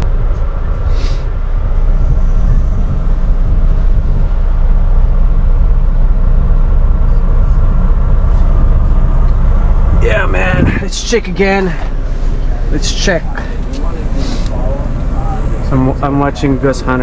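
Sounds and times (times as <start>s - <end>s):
diesel truck engine running: 0.0s - 17.0s
faint hum: 0.0s - 17.0s.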